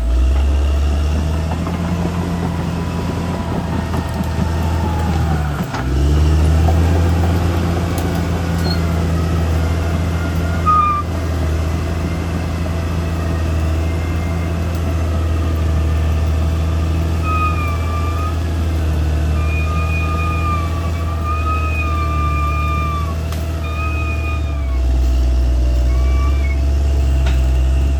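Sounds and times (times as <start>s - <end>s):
bulldozer diesel engine running: 0.0s - 27.9s
wavering high-pitched squeal: 1.7s - 27.9s.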